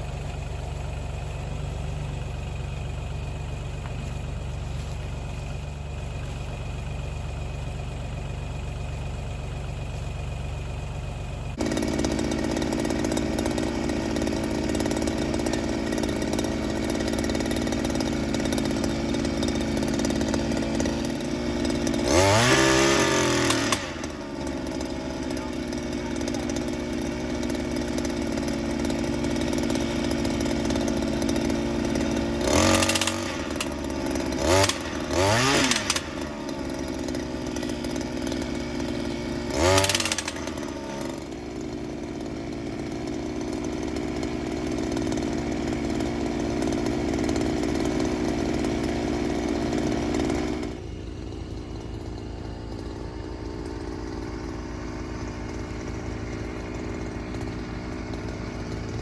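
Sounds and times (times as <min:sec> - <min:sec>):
pile driver engine revving: 0:00.0 - 0:59.0.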